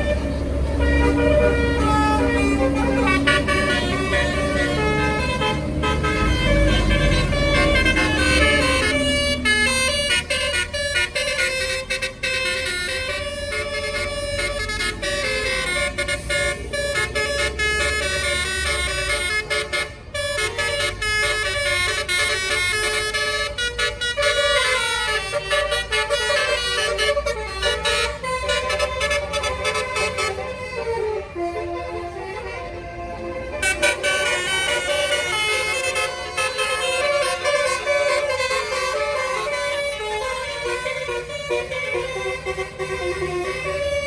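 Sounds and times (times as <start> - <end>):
bus engine rumble: 0.0 - 44.0
musical bus air horn: 0.0 - 44.0.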